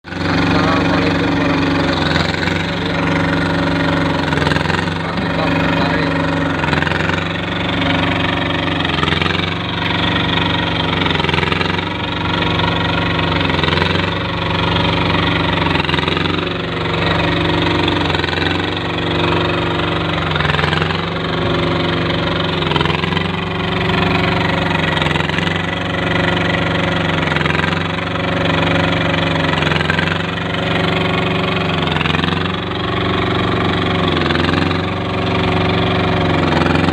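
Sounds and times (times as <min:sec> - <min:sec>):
small machine engine running: 0:00.0 - 0:36.9.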